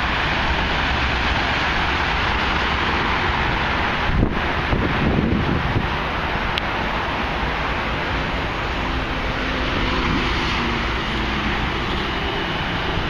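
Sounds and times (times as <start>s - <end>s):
road traffic noise: 0.0s - 13.0s
train rumbling: 0.0s - 13.0s.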